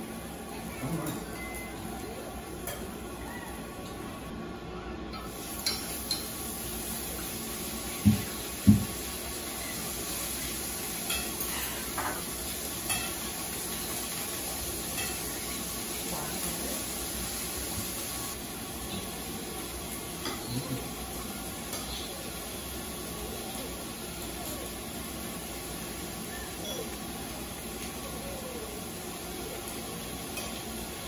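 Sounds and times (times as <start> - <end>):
meat sizzling on a grill pan: 5.3 - 31.0.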